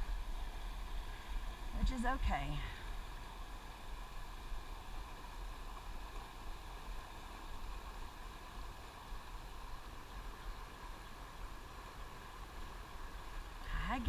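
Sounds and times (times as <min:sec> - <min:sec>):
river water hissing: 0:00.0 - 0:14.0.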